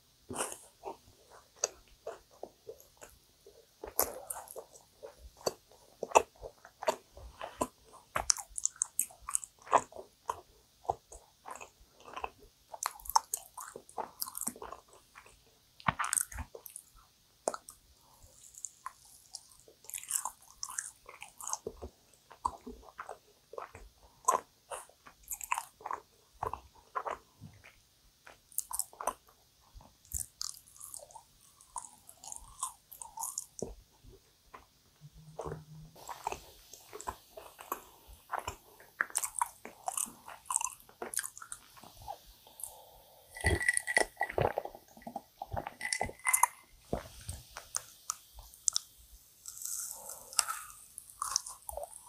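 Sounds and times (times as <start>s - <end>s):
person chewing and biting: 0.3s - 3.2s, 3.8s - 29.4s, 30.0s - 33.8s, 35.3s - 52.0s.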